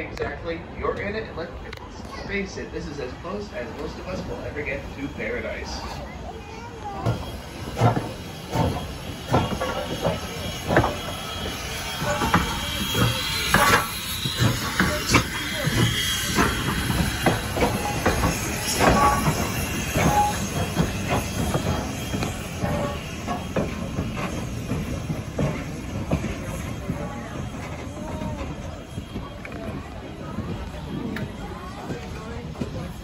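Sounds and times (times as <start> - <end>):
rods and wheels clanking: 0.0 - 33.0
wheels squealing on rail: 2.0 - 33.0.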